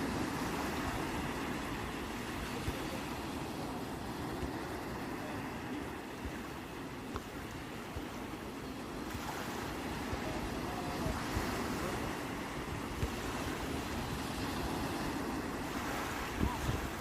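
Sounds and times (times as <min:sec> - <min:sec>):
waves washing onto shore: 0:00.0 - 0:17.0
wind buffeting microphone: 0:00.0 - 0:17.0.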